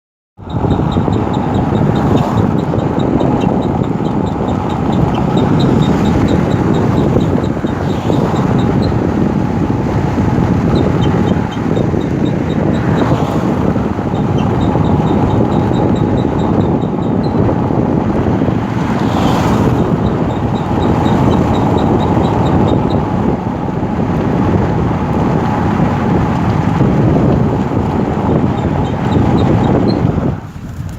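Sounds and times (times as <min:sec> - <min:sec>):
brake pads squealing: 0:00.4 - 0:24.1, 0:26.3 - 0:30.9
road and engine noise: 0:00.4 - 0:30.9.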